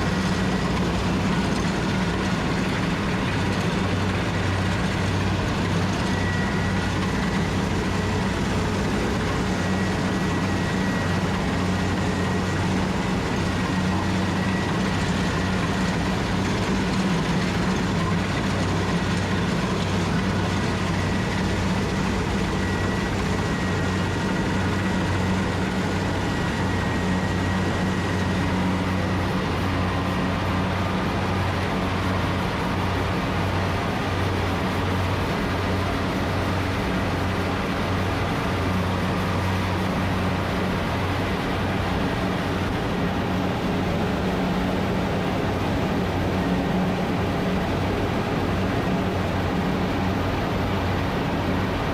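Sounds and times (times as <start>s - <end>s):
combine harvester machinery hum: 0.0s - 51.9s.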